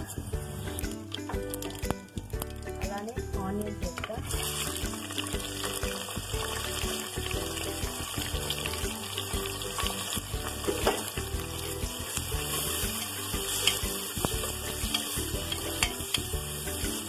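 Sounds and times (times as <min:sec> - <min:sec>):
background music: 0:00.0 - 0:17.0
onions sizzling in hot oil: 0:00.0 - 0:17.0.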